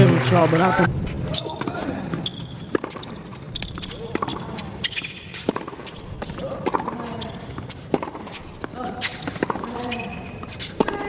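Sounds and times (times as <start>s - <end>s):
shoes squeaking on court: 1.3s - 11.0s
ball bouncing on hard court: 1.4s - 11.0s
racquets striking tennis ball: 1.5s - 11.0s.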